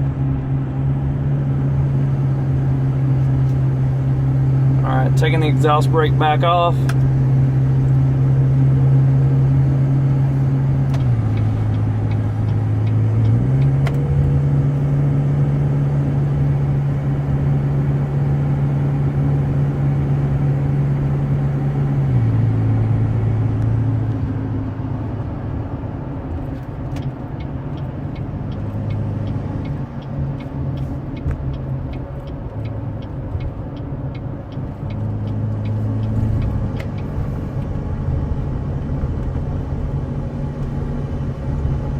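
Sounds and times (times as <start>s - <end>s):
diesel engine drone in cab: 0.0s - 41.9s.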